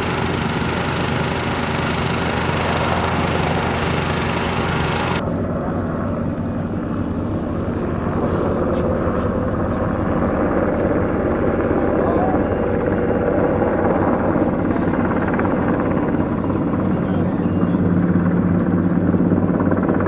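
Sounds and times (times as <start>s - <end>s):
fire truck engine running: 0.0s - 17.8s
helicopter rotor drone: 0.0s - 20.0s.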